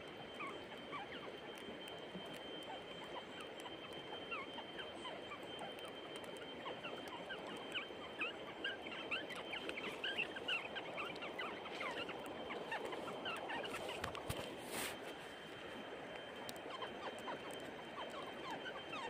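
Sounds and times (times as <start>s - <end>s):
thin steady high tone: 0.0s - 19.0s.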